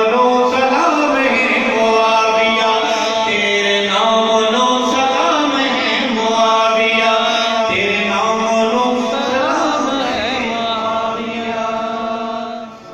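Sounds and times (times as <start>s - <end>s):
man chanting unaccompanied: 0.0s - 12.9s.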